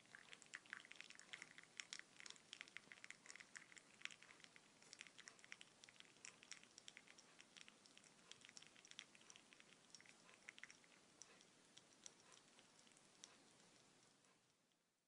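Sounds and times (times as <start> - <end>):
coffee dripping: 0.0 - 14.9
soft hiss: 0.0 - 15.0.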